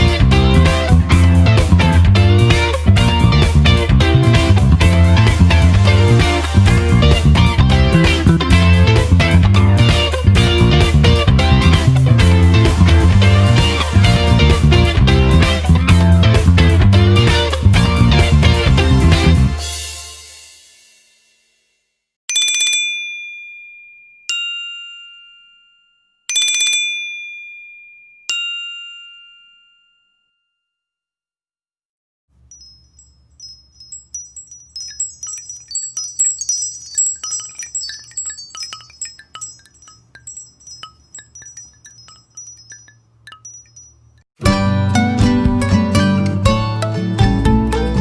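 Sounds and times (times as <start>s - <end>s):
rapid high twinkling chime notes: 0.0s - 19.8s, 22.3s - 30.4s, 32.4s - 44.3s.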